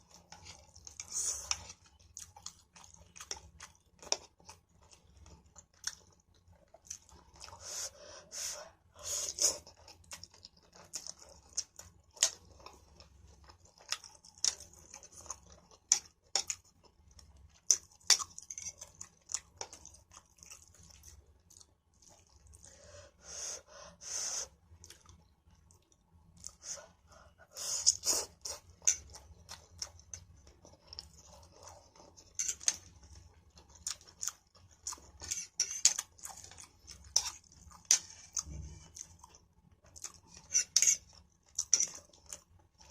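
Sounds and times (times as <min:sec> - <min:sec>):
person chewing noodles: 0:00.0 - 0:42.9.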